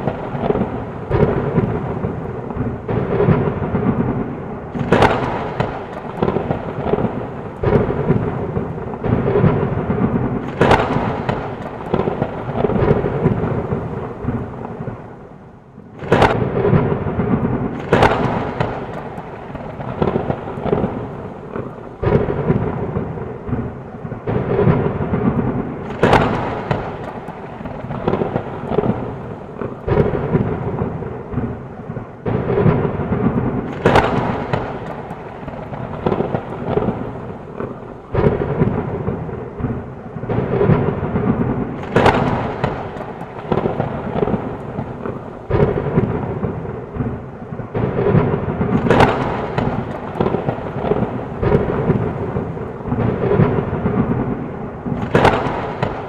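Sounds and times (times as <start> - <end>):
heavy rain: 0.0 - 56.0
rolling thunder: 0.0 - 56.0
sharp thunder cracks: 0.0 - 56.0.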